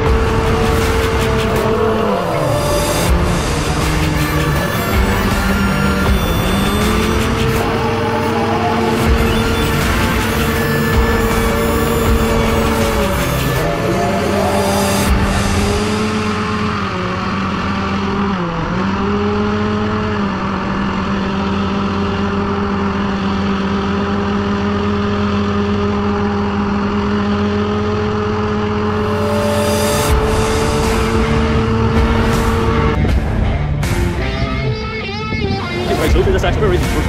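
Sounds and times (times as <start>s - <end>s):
hovercraft engine running: 0.0s - 37.0s.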